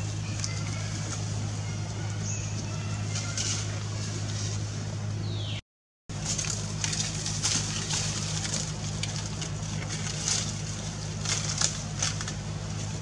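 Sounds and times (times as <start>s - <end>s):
leaves and twigs rustling: 0.0s - 5.1s, 6.1s - 13.0s
steady low hum: 0.0s - 13.0s.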